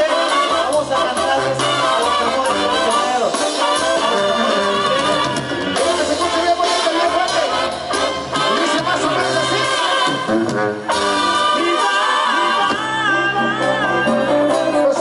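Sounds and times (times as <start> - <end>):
low bass notes: 0.0 - 15.0
man singing: 0.0 - 15.0
trumpets and brass: 0.0 - 15.0.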